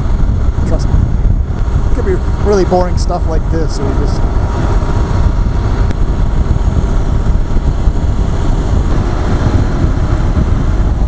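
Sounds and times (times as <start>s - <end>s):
motorcycle engine: 0.0s - 11.0s
wind rush on microphone: 0.0s - 11.0s.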